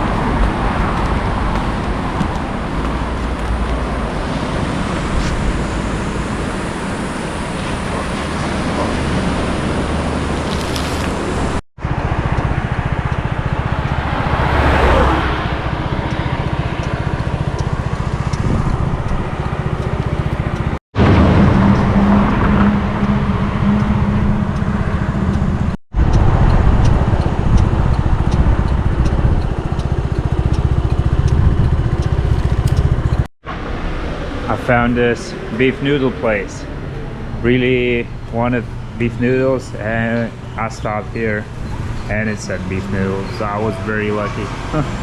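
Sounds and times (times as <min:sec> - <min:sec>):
wind rumble on microphone: 0:00.0 - 0:37.5
road vehicle noise: 0:00.0 - 0:45.0.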